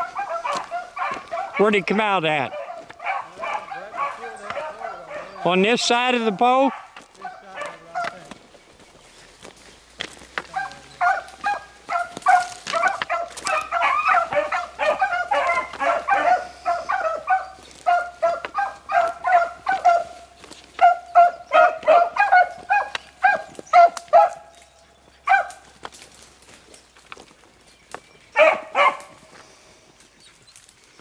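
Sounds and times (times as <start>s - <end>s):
hounds baying: 0.0s - 30.7s.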